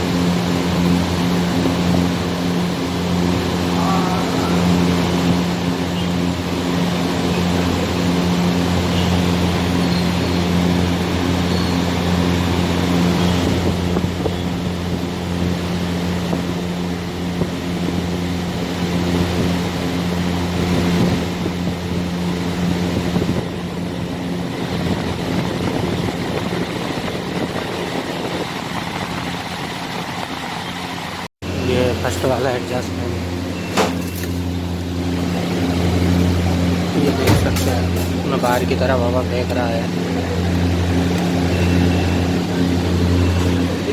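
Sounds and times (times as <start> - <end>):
exhaust fans humming: 0.0 - 43.9.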